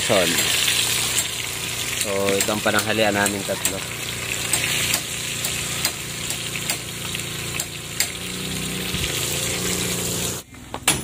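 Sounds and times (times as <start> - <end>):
food sizzling in hot oil: 0.0 - 10.4.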